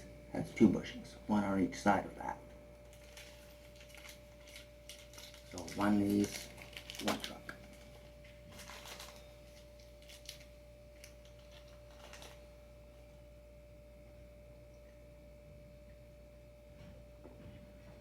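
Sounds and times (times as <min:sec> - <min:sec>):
faint high hum: 0:00.0 - 0:18.0.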